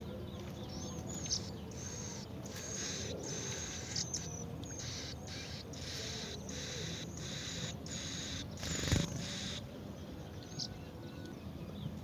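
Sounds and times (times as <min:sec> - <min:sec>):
birds whistling calls: 0:01.1 - 0:11.4.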